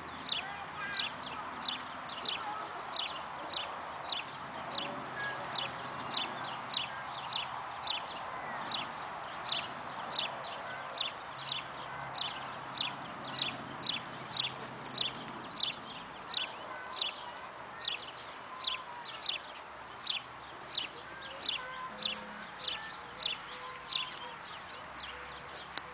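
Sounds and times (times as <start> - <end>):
bird chirping: 0.0 - 25.9.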